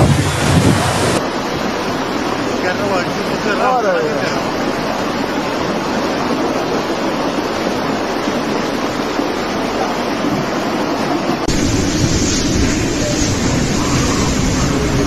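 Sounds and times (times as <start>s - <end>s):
rough surf: 0.0s - 15.0s
storm wind: 0.0s - 15.0s.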